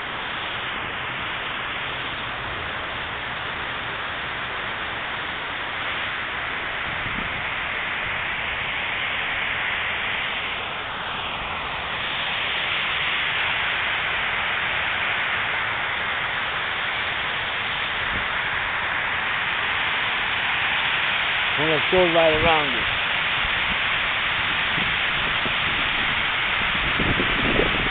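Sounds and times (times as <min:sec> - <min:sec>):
fountain water jets splashing: 0:00.0 - 0:27.9.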